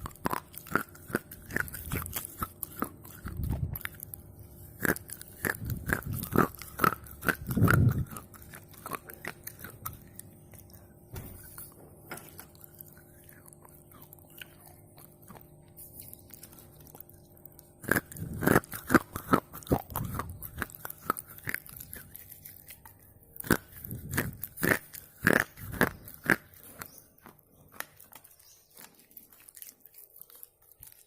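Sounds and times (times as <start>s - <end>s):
soft chewing: 0.0s - 31.0s.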